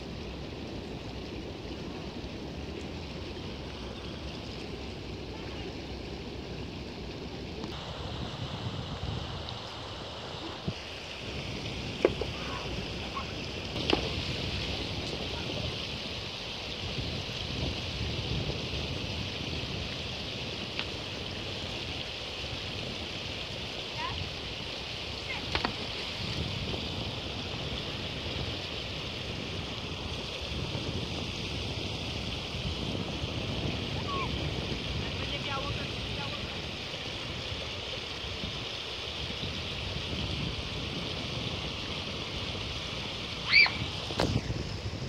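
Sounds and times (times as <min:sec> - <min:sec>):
flowing river water: 0:00.0 - 0:45.0
wind rumbling on microphone: 0:00.0 - 0:45.0.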